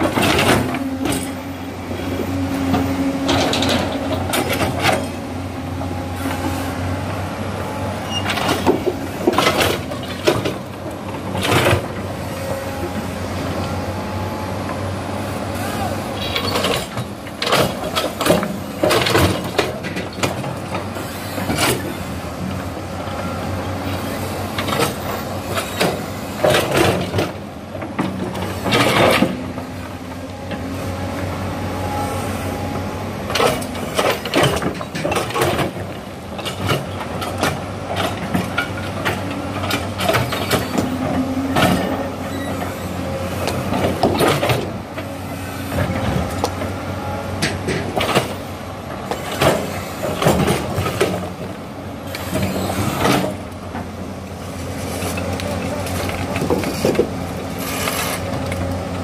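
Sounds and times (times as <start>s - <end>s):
excavator engine drone: 0.0s - 59.0s.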